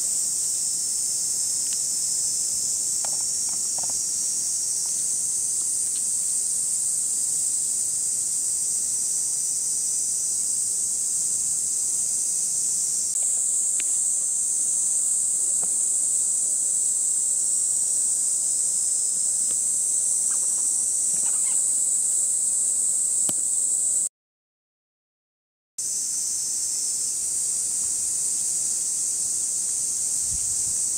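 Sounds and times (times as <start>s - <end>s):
insects droning: 0.0s - 24.1s, 25.8s - 30.9s.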